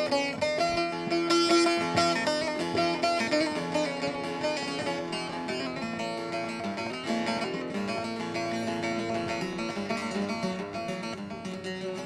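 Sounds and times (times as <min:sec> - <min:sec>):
lute rapidly strummed: 0:00.0 - 0:12.0.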